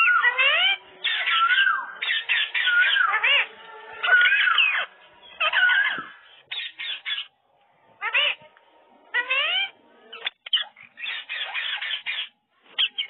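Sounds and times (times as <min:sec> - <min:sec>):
parakeet calling and chattering: 0:00.0 - 0:07.4, 0:08.0 - 0:08.5, 0:09.1 - 0:13.0.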